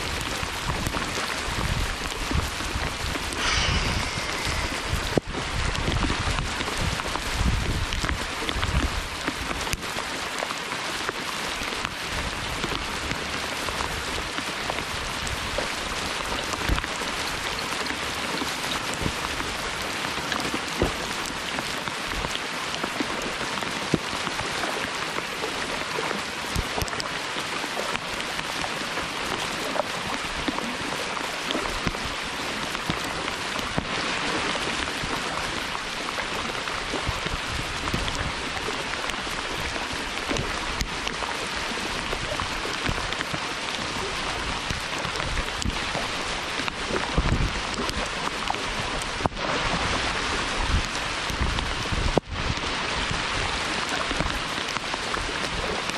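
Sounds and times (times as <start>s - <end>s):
hard rain pouring: 0.0s - 55.9s.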